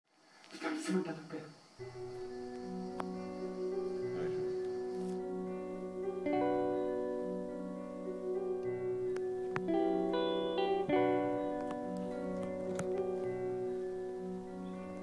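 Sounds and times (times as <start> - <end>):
slow instrumental music: 1.8 - 15.0.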